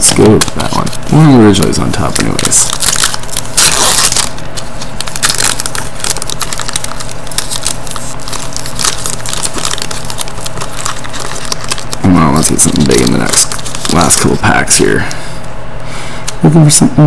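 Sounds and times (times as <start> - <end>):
card pack wrapper tearing: 0.0 - 15.1.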